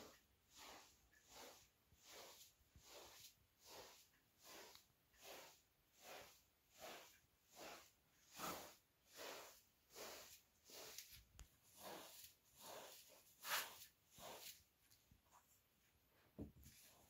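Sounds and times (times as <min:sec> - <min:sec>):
broom sweeping carpet: 0:00.0 - 0:17.0.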